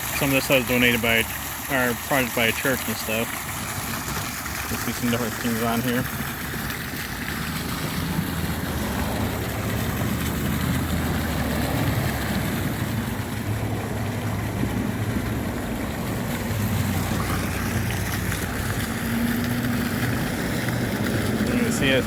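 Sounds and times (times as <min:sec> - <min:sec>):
road traffic rumble: 0:00.0 - 0:22.0
water fountain splashing: 0:00.0 - 0:22.0.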